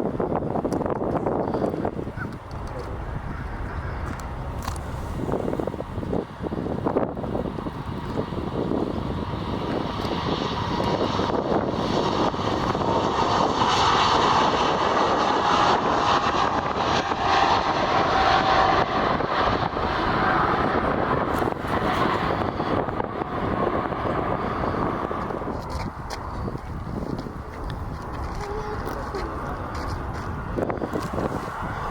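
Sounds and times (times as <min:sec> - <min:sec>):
airliner passing overhead: 0:00.0 - 0:31.9
faint engine whine: 0:00.0 - 0:31.9.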